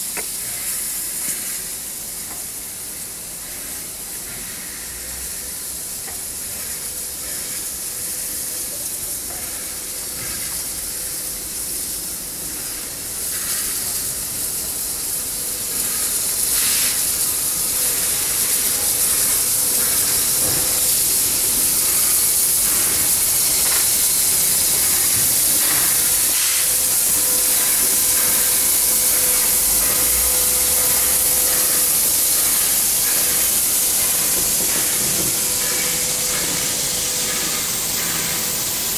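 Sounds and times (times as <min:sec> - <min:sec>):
faint locomotive clanks: 0:00.0 - 0:38.9
steam hissing: 0:00.0 - 0:38.9.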